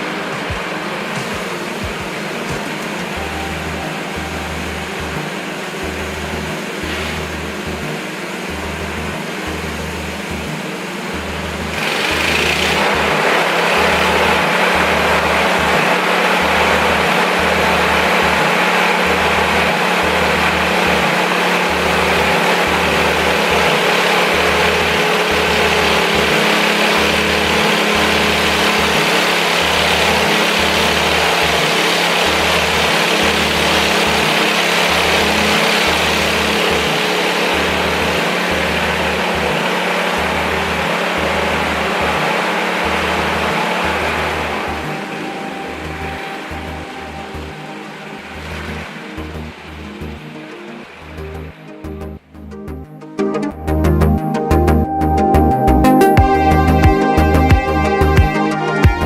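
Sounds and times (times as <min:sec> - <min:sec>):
small engine running: 0:00.0 - 0:50.3.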